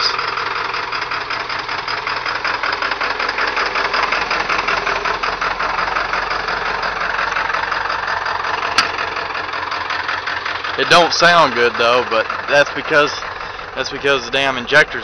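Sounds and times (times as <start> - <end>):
diesel engine idling rough: 0.0 - 15.0.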